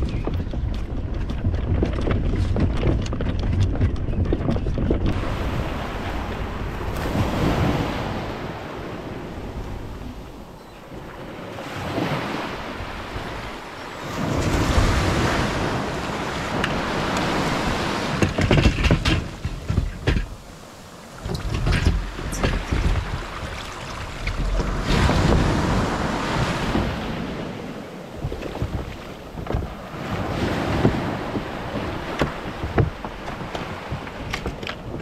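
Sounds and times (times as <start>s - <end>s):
wind buffeting microphone: 0.0s - 35.0s
small waves breaking on beach: 5.1s - 35.0s.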